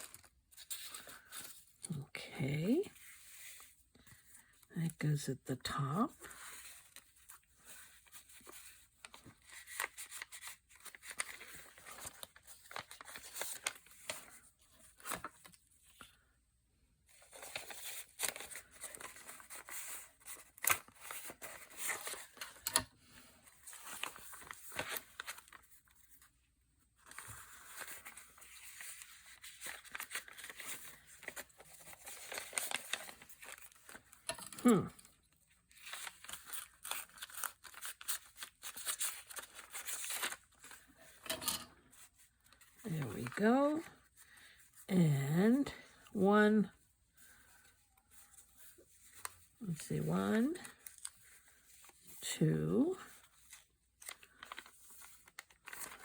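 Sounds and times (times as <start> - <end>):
paper rustling and crinkling: 0.0 - 1.9, 2.8 - 4.6, 6.2 - 16.3, 17.0 - 44.9, 46.8 - 49.6, 50.5 - 52.2, 52.9 - 56.0.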